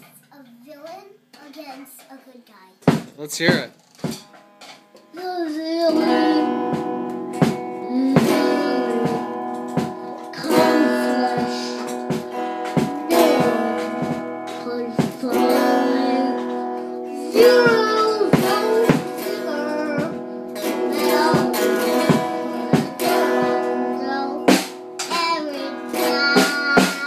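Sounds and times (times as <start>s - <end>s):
electric guitar chords strummed: 4.2s - 27.0s
child singing into a microphone: 5.1s - 27.0s.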